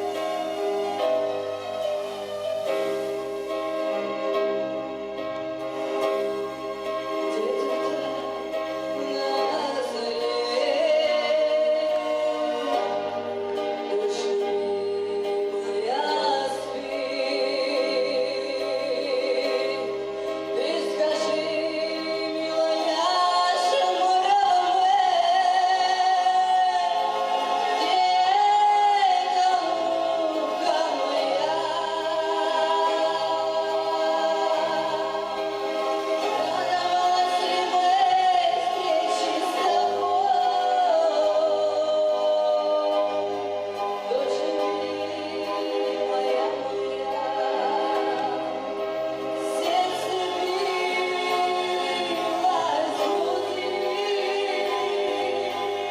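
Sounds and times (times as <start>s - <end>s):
instrumental accompaniment with bass: 0.0s - 55.9s
women singing: 7.3s - 13.1s, 13.9s - 55.9s.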